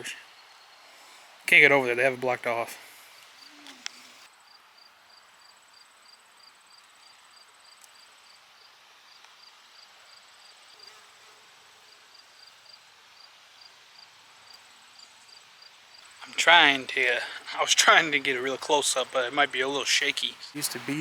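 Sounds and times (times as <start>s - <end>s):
insects chirping: 0.0s - 1.4s, 2.9s - 21.0s.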